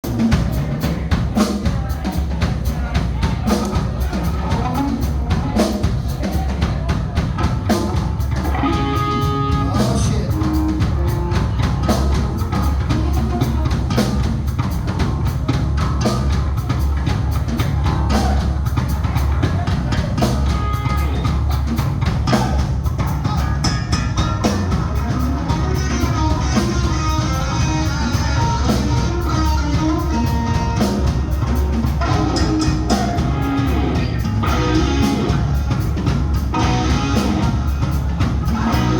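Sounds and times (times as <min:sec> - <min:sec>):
drum kit beat: 0:00.0 - 0:38.9
guitar: 0:00.0 - 0:38.9
rock band playing: 0:00.0 - 0:38.9.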